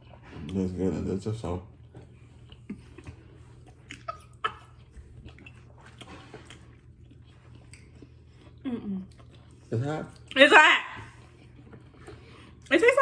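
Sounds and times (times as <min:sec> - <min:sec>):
person chewing food: 0:00.0 - 0:10.4, 0:11.0 - 0:12.7
low steady hum: 0:00.0 - 0:13.0.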